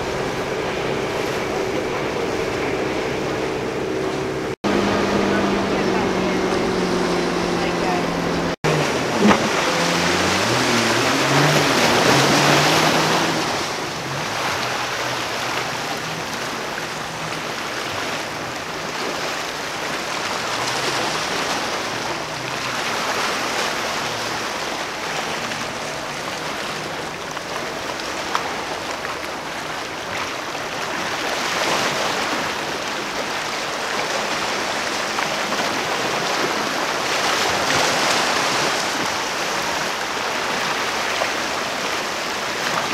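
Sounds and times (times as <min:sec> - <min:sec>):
faint boat engine hum: 0:00.0 - 0:42.9
waves washing: 0:00.0 - 0:42.9
wind: 0:00.0 - 0:42.9.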